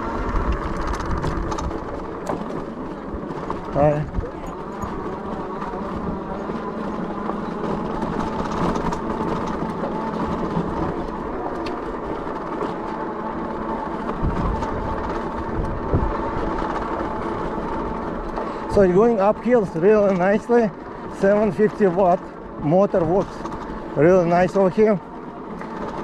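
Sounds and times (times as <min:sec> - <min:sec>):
electric motor humming: 0:00.0 - 0:26.0
low bumps: 0:00.0 - 0:26.0
tyres on dirt: 0:00.0 - 0:26.0
wind: 0:00.0 - 0:26.0.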